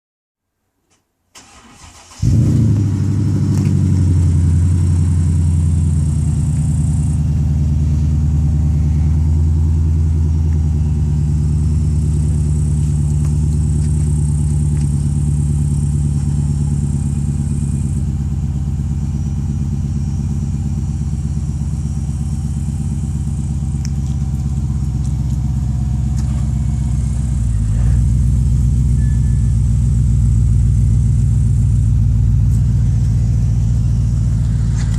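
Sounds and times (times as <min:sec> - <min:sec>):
car engine cranking: 0:01.4 - 0:07.3, 0:09.2 - 0:34.9
car engine fast idle: 0:01.4 - 0:34.9.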